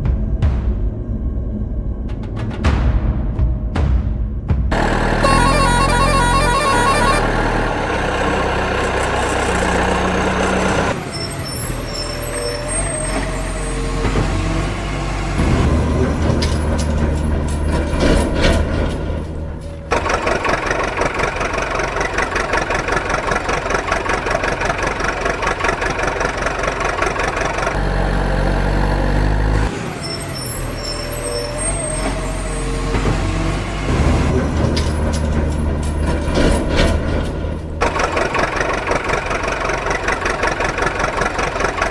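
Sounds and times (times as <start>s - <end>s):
vehicle engine running: 4.7s - 41.9s.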